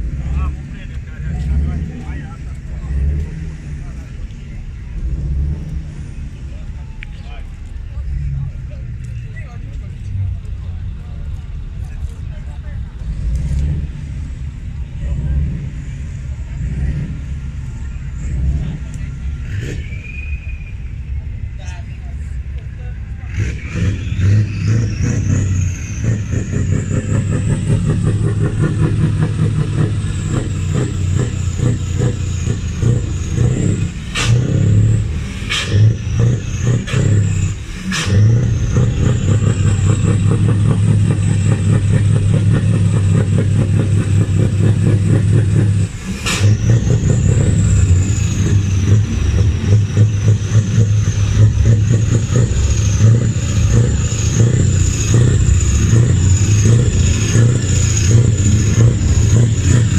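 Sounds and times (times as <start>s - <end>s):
truck engine droning: 0.0s - 59.9s.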